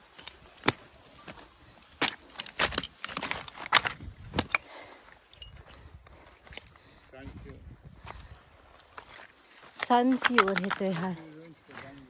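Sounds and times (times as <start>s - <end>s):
footsteps on loose slate: 0.0s - 12.0s.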